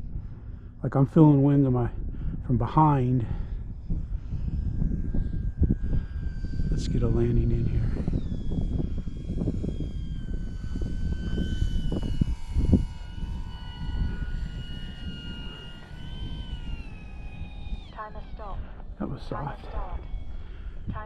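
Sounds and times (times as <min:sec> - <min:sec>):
model plane motor whining: 0:00.0 - 0:21.0
wind buffeting microphone: 0:00.0 - 0:21.0.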